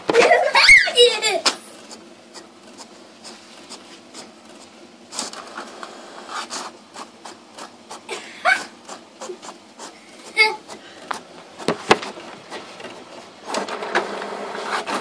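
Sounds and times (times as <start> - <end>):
printer whirring and clicking: 1.0 - 15.0.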